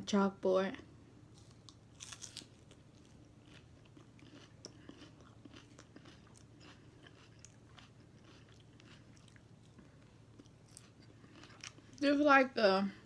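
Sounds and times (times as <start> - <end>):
low steady hum: 0.0 - 13.0
chewing crunchy salad: 1.3 - 12.2.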